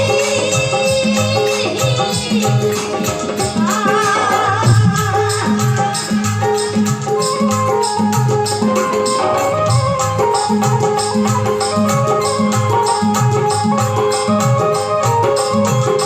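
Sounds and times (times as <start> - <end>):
hand drum beat: 0.0 - 16.0
instrumental melody: 0.0 - 16.0
rattling percussion: 0.0 - 16.0.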